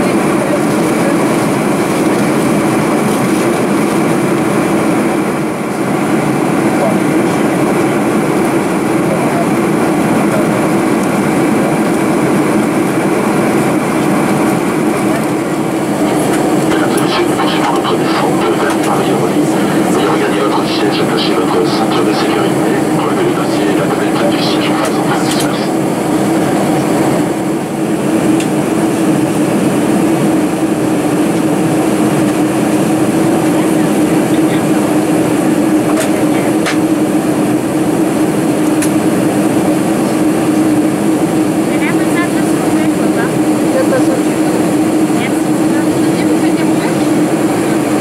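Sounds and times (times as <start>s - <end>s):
aircraft engines droning: 0.0s - 48.0s
constant low hum: 0.4s - 48.0s.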